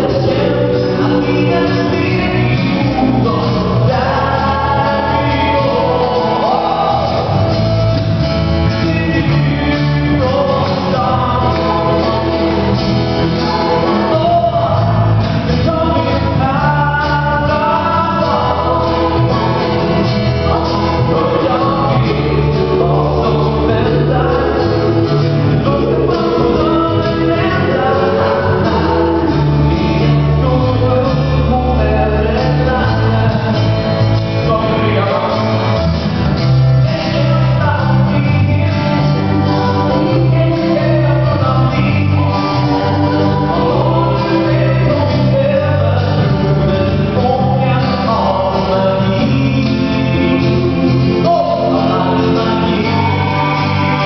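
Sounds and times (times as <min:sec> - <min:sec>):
guitars playing: 0:00.0 - 0:54.0
man and woman singing: 0:00.0 - 0:54.0.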